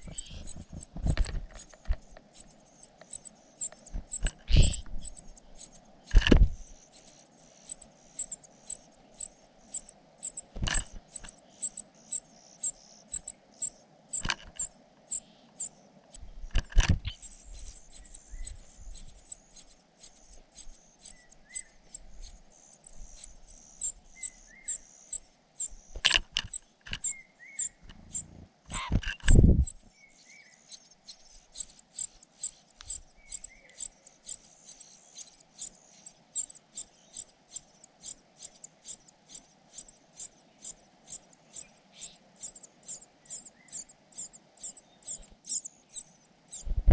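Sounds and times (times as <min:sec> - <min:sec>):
bird chick high-pitched begging calls: 0:00.0 - 0:00.9, 0:01.6 - 0:15.8, 0:17.1 - 0:46.8.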